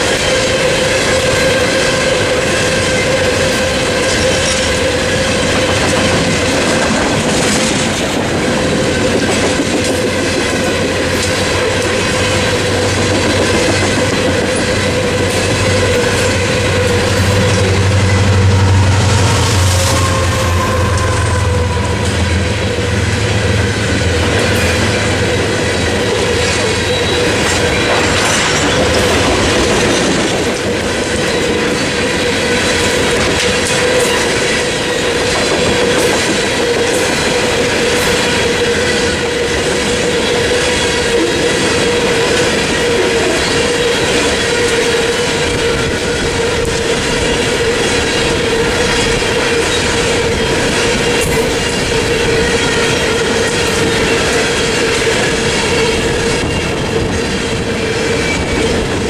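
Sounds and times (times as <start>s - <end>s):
clickety-clack over rail joints: 0.0s - 20.3s, 20.9s - 59.0s
locomotive engine hum: 0.0s - 59.0s
train wheels rumbling: 0.0s - 59.0s
high wheel squeal: 10.1s - 59.0s.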